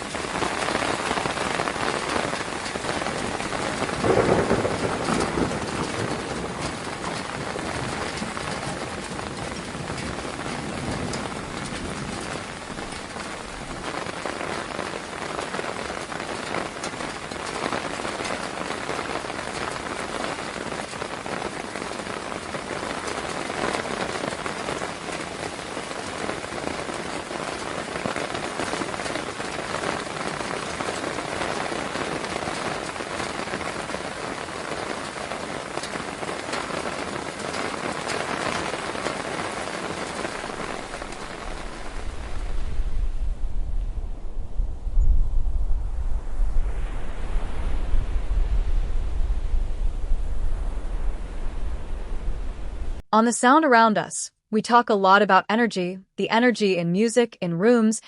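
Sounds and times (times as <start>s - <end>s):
steady rain falling: 0.0s - 53.6s.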